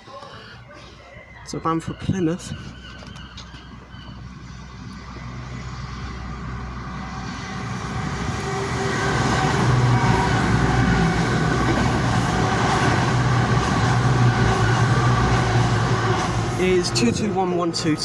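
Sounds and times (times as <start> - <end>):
train passing: 1.6 - 18.0.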